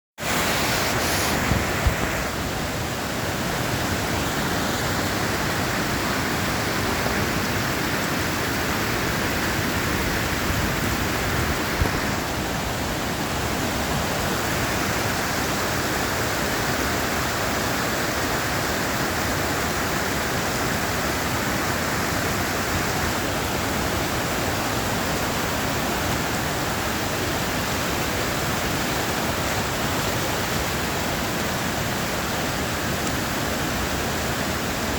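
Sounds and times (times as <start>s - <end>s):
ocean surf roaring: 0.2s - 34.9s.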